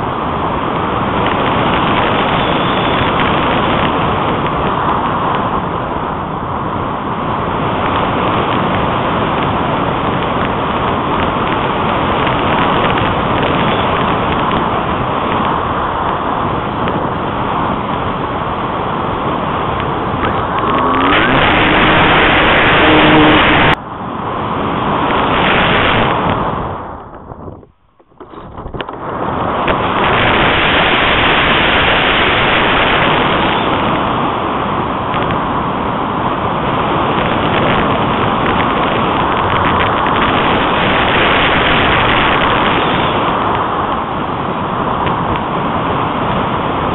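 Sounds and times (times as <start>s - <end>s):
airflow rushing over microphone: 0.0s - 46.9s.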